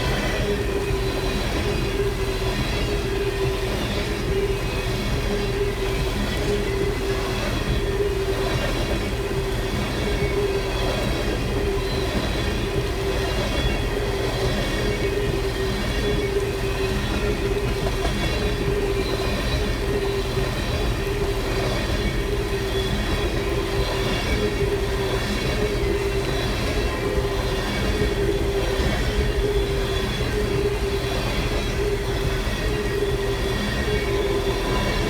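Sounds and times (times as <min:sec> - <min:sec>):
train wheels rumbling on rail: 0:00.0 - 0:35.0
wheel squeal: 0:00.0 - 0:35.0.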